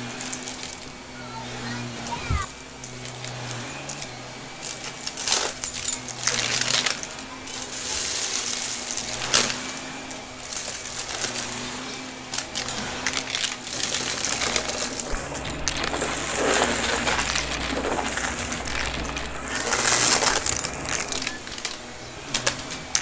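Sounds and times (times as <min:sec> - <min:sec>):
debris clicking in vacuum: 0:00.0 - 0:01.0, 0:01.6 - 0:23.0
vacuum cleaner running: 0:00.0 - 0:23.0.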